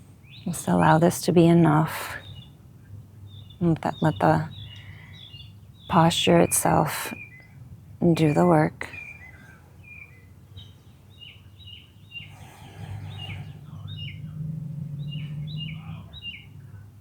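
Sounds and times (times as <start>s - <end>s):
faint low hum: 0.0s - 17.0s
small birds chirping: 0.0s - 17.0s.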